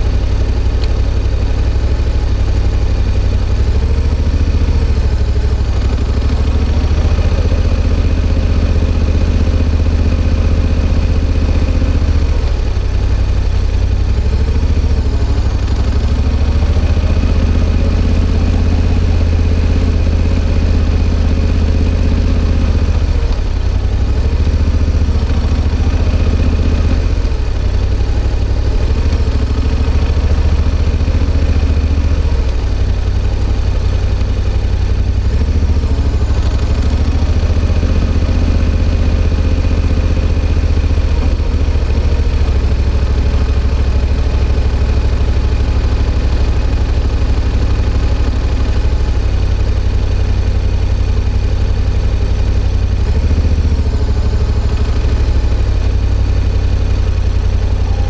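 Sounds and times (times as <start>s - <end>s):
motorcycle engine low revs: 0.0s - 58.0s.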